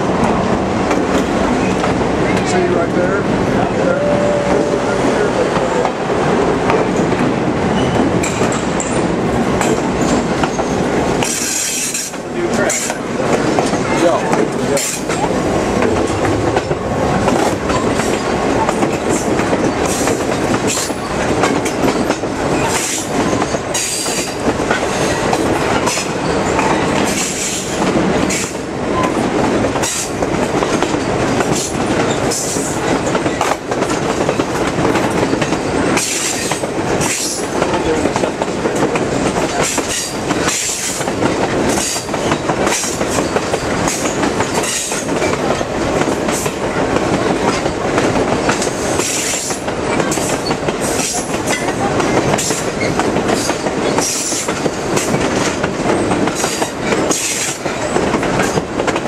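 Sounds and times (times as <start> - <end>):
clacks over rail joints: 0.0 - 59.0
train wheels rumbling on rails: 0.0 - 59.0.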